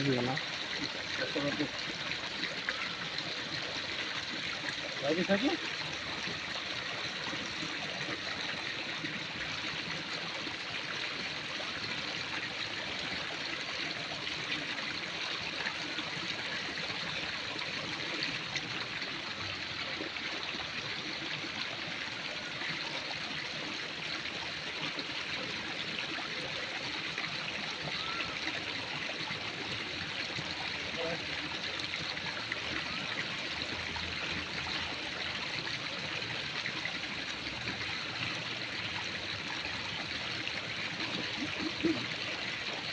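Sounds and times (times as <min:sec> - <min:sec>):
running water rushing: 0:00.0 - 0:42.9.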